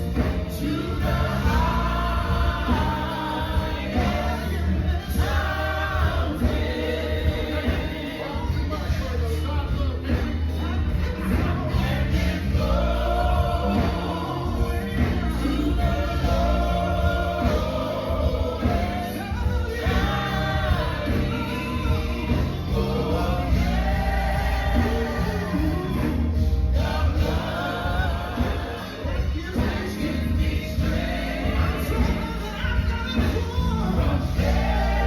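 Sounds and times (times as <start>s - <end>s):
choir singing gospel: 0.0s - 35.0s
instrumental backing with heavy bass: 0.0s - 35.0s.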